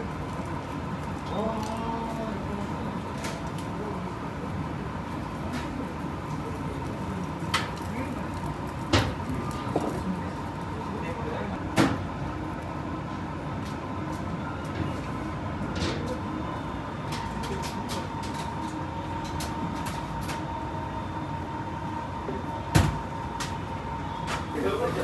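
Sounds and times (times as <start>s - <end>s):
background hum and hiss: 0.0s - 25.0s.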